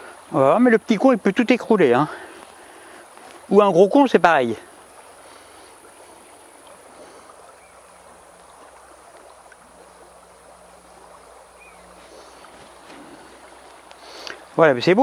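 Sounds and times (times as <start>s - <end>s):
river running over stones: 0.0s - 15.0s.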